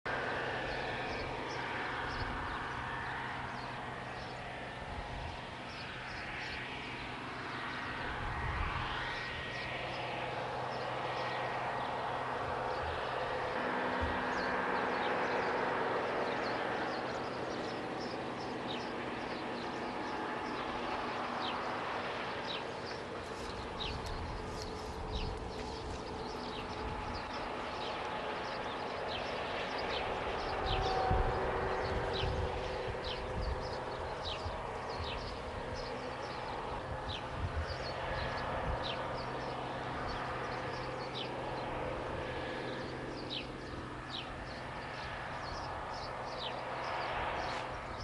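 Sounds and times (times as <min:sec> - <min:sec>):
combine harvester engine hum: 0:00.1 - 0:48.0.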